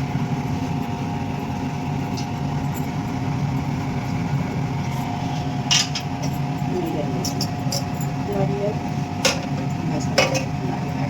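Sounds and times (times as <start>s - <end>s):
low hum and whir: 0.0s - 11.0s.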